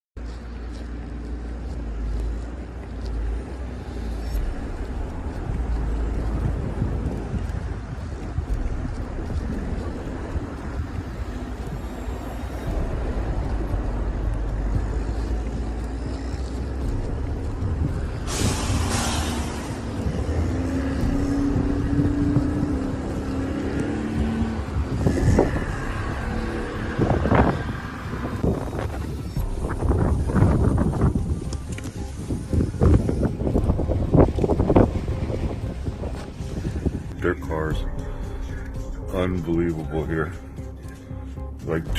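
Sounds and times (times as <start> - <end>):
vehicle engine humming: 0.2 - 41.9
wind buffeting microphone: 0.2 - 41.9.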